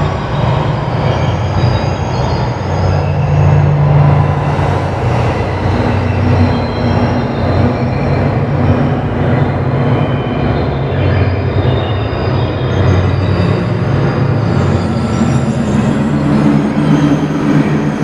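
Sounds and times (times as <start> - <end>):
electronic ambient drone: 0.0 - 18.0.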